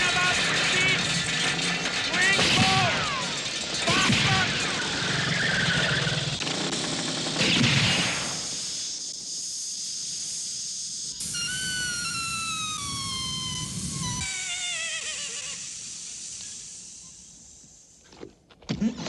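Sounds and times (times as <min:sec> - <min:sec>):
thin falling whine: 0:00.0 - 0:18.3.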